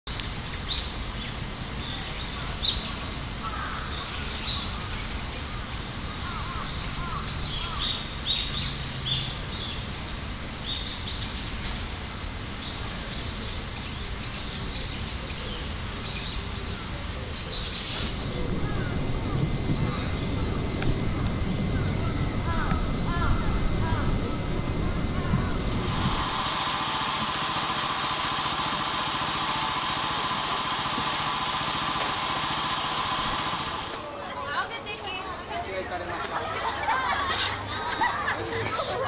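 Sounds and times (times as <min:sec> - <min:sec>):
birds chirping: 0:00.5 - 0:34.1.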